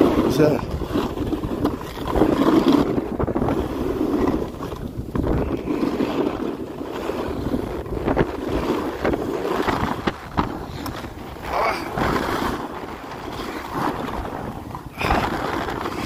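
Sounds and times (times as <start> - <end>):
ski edges scraping snow: 0.0 - 16.0
wind rushing over microphone: 0.0 - 16.0.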